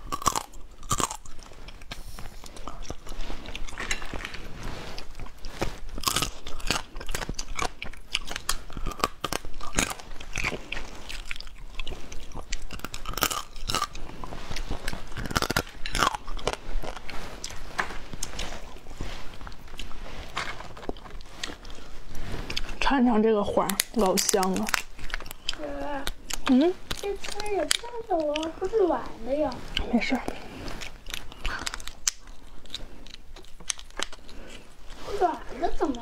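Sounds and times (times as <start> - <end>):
chewing crunchy food: 0.0 - 36.0.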